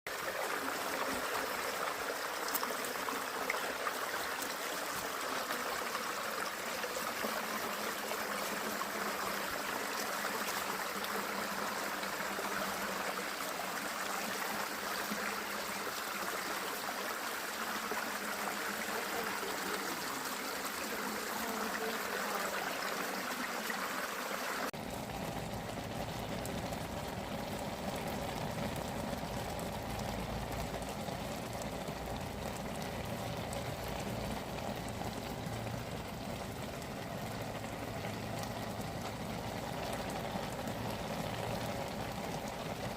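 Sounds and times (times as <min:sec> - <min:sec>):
flowing water rushing: 0:00.1 - 0:42.9.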